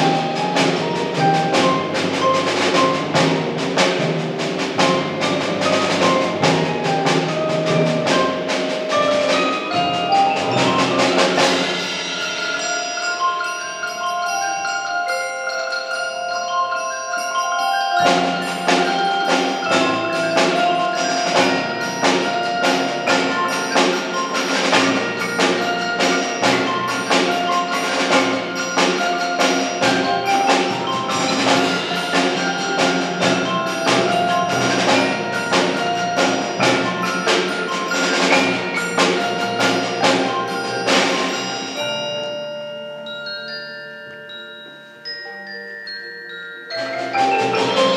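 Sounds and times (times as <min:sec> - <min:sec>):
mallet percussion ensemble playing: 0:00.0 - 0:47.9.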